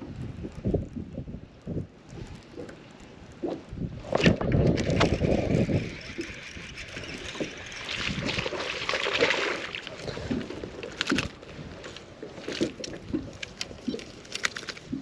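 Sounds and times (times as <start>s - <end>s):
water splashing and sloshing: 2.1s - 15.0s.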